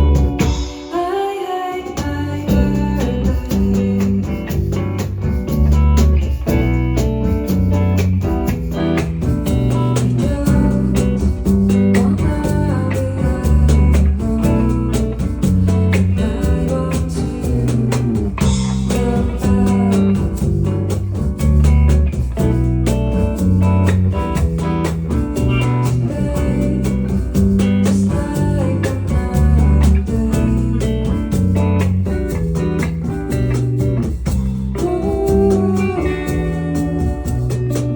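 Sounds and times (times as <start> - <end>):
steady bass line: 0.0 - 0.9, 2.2 - 37.9
acoustic guitar: 0.0 - 37.9
drums: 0.0 - 37.9.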